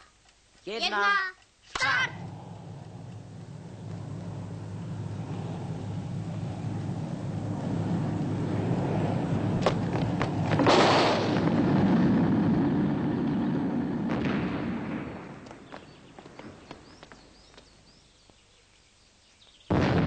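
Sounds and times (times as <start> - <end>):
sharp crack: 1.6 - 18.0
rocket launch roar: 1.7 - 17.9, 19.7 - 20.0.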